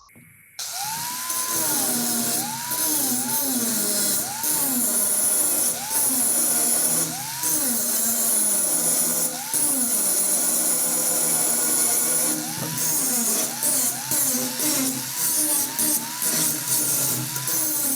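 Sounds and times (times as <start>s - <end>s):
angle grinder grinding steel: 0.6s - 17.9s.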